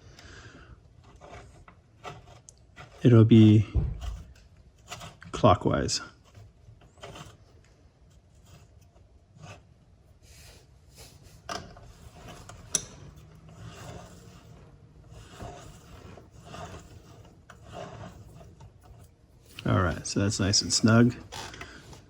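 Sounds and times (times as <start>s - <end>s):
threads rubbing and scraping: 0.7s - 22.0s.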